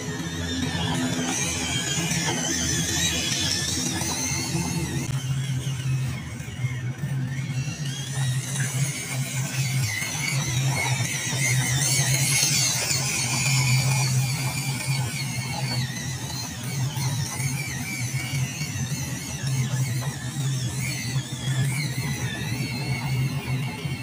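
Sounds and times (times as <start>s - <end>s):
toy truck motor whining: 0.0s - 24.0s.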